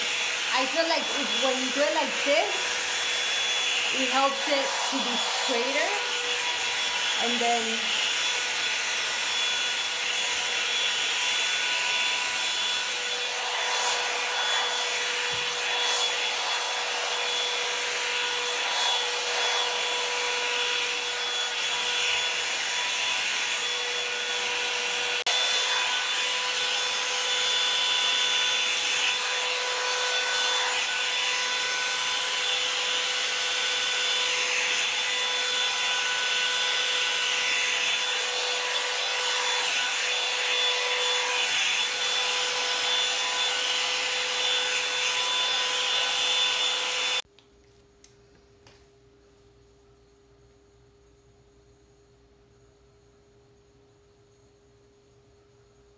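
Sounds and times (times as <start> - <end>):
hot-air brush dryer running: 0.0 - 47.2.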